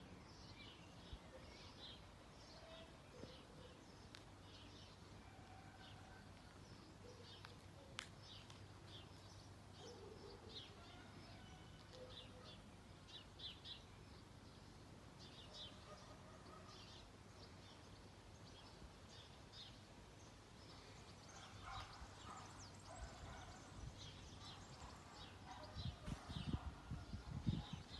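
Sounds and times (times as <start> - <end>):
birds chirping faintly: 0.0 - 27.9.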